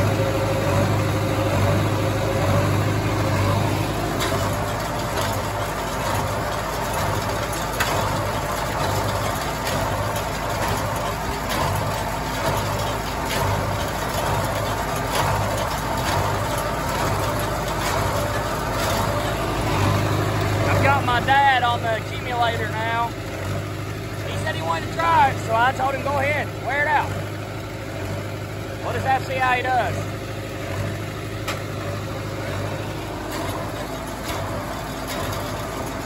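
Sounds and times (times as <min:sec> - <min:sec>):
diesel tractor engine under load: 0:00.0 - 0:36.0.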